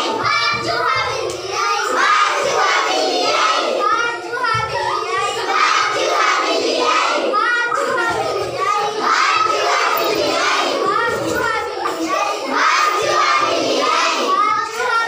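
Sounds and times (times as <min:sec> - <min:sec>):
children shouting: 0:00.0 - 0:15.0.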